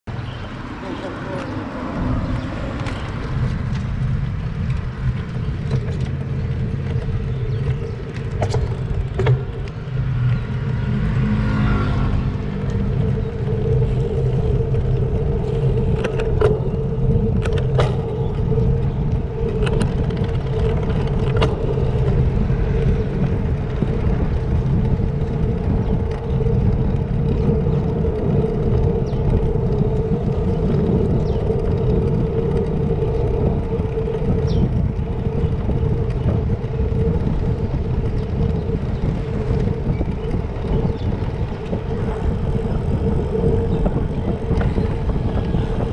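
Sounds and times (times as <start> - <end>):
wind and road rumble: 0.0 - 45.9.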